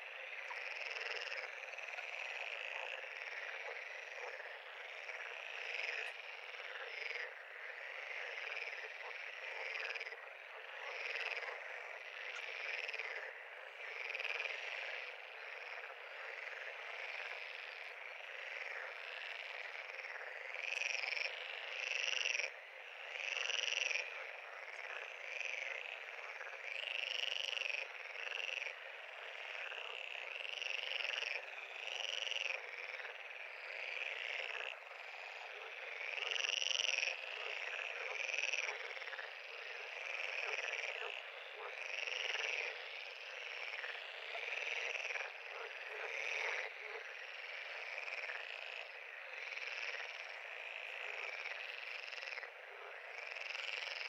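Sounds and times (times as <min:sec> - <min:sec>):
frogs calling: 0:00.0 - 0:54.0.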